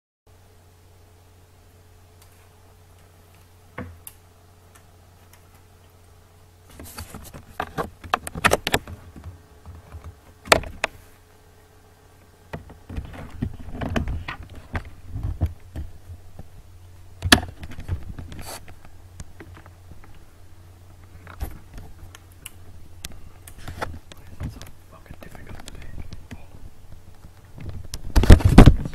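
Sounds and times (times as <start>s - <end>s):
low steady hum: 0.3s - 28.9s.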